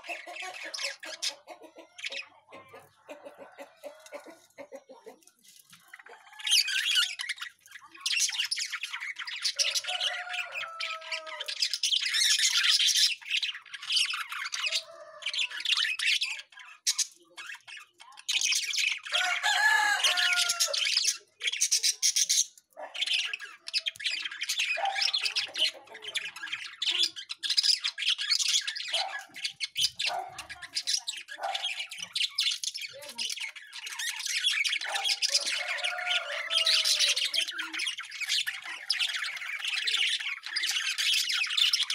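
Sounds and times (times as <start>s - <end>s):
parrots chattering and squawking: 0.0s - 41.9s.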